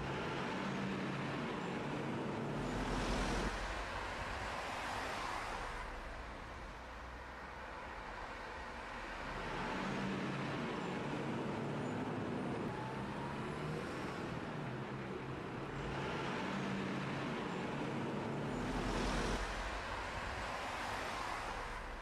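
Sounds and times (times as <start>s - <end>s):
rumbling background noise: 0.0s - 22.0s.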